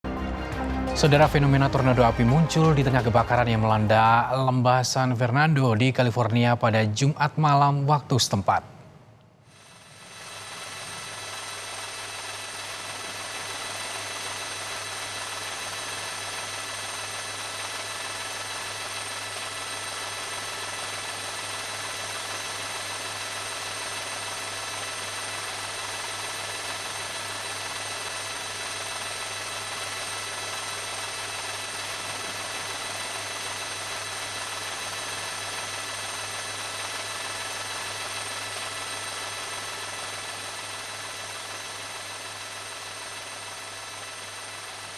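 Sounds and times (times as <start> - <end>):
steady machine drone: 0.0 - 7.6, 8.5 - 44.9
high whine tones: 7.0 - 44.9.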